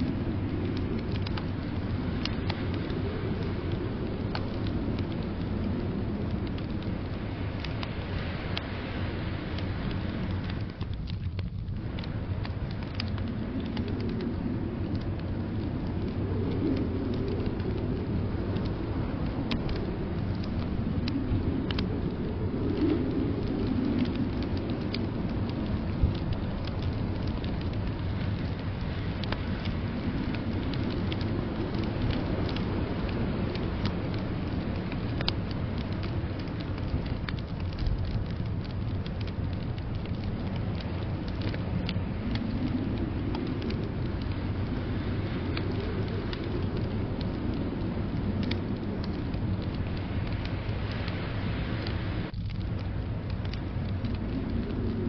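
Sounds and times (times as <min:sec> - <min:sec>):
blizzard wind rush: 0:00.0 - 0:55.0
wood fire crackling and popping: 0:00.0 - 0:55.0.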